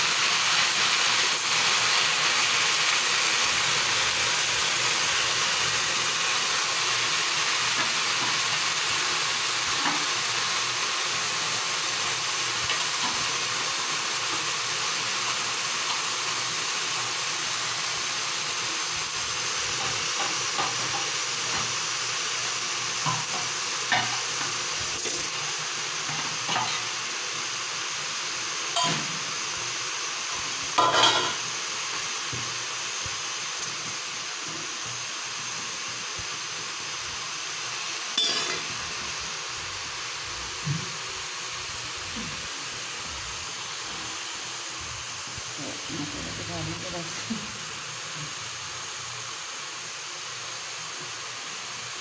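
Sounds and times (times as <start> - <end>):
greens sizzling in a wok: 0.0 - 52.0.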